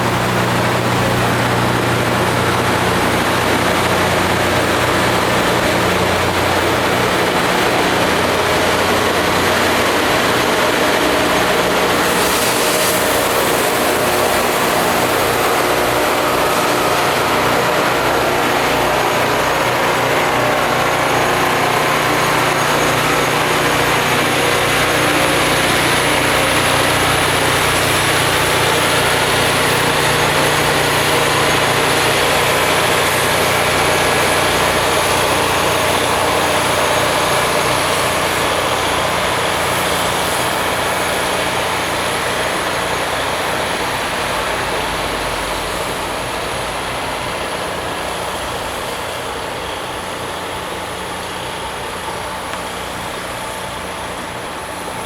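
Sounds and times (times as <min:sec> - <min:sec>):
constant machine hiss: 0:00.0 - 0:55.0
heavy engine drone: 0:00.0 - 0:55.0.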